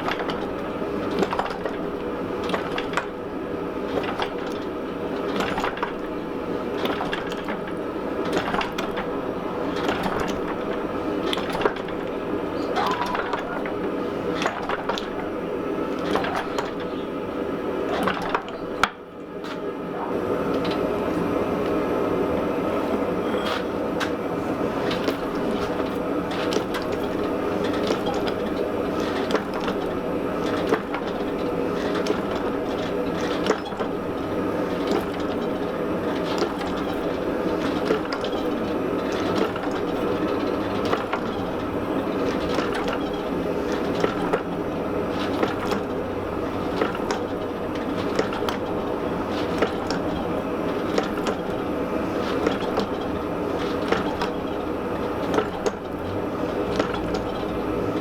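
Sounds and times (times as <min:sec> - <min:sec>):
gas forge burner roaring: 0:00.0 - 0:58.0.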